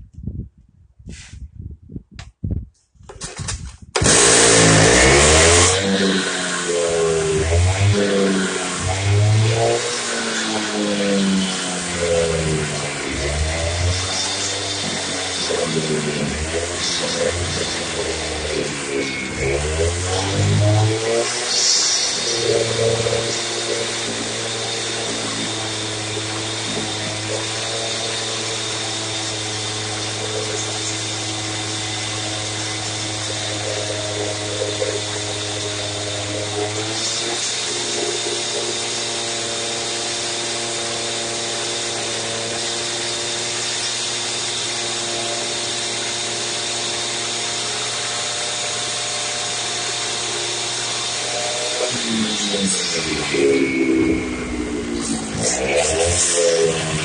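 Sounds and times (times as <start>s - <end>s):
cut-off saw running: 3.3s - 57.0s.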